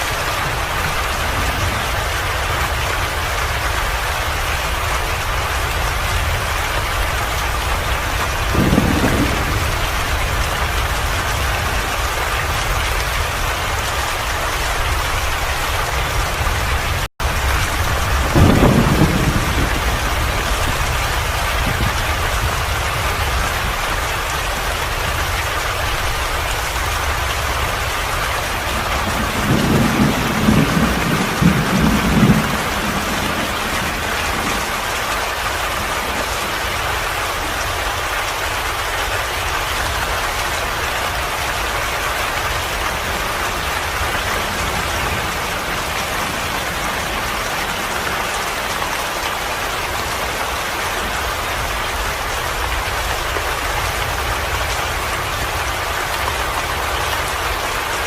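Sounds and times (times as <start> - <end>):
steady rain falling: 0.0 - 58.0
thunder rumbling: 0.0 - 58.0.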